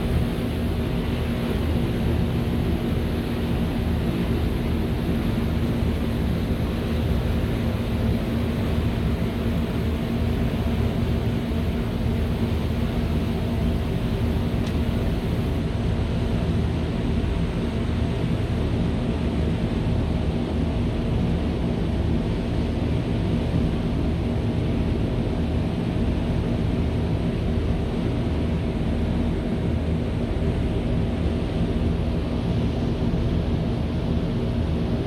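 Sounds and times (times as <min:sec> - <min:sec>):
ferry engine hum: 0:00.0 - 0:35.0
wind: 0:00.0 - 0:35.0.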